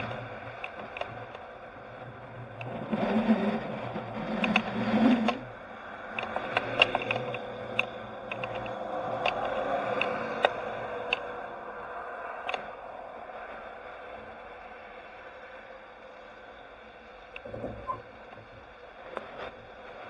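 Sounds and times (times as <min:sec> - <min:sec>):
road noise from moving vehicle: 0:00.0 - 0:20.0.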